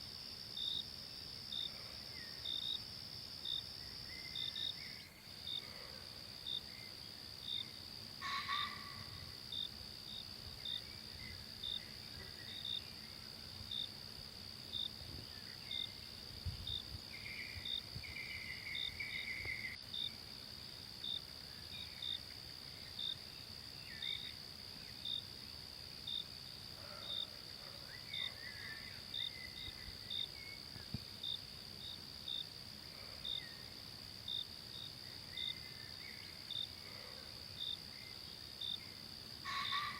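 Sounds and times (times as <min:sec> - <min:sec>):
cricket chirping: 0:00.0 - 0:39.9
insect drone: 0:00.0 - 0:39.9.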